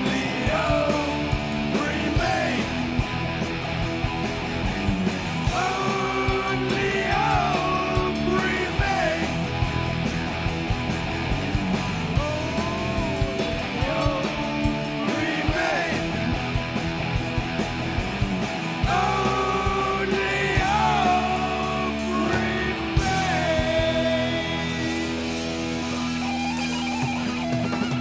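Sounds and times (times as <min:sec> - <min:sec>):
bass guitar: 0:00.0 - 0:28.0
bending lead guitar line: 0:00.0 - 0:28.0
distorted electric guitars: 0:00.0 - 0:28.0
drums: 0:00.0 - 0:28.0.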